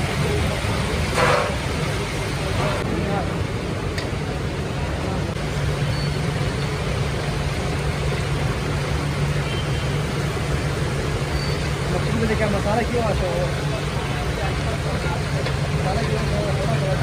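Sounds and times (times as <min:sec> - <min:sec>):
constant rushing noise: 0:00.0 - 0:17.0.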